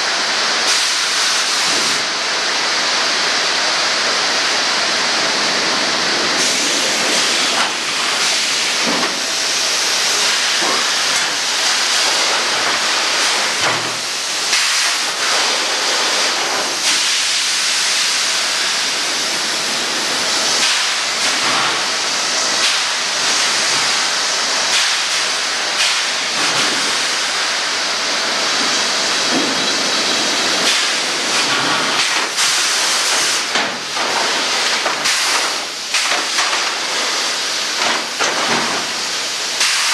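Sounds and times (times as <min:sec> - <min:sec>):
sawmill machinery hissing din: 0:00.0 - 0:39.9.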